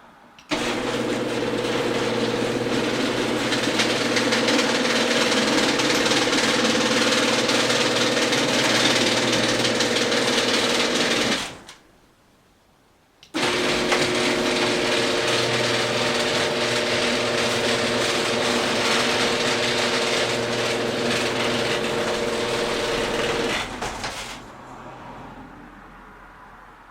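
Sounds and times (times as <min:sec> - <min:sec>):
garage door opener motor humming: 0:00.4 - 0:11.8, 0:13.2 - 0:24.5.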